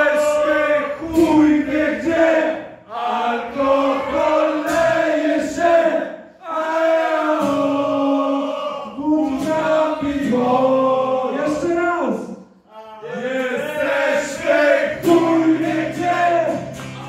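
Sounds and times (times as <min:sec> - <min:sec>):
crowd singing along: 0:00.0 - 0:11.7, 0:13.0 - 0:17.0.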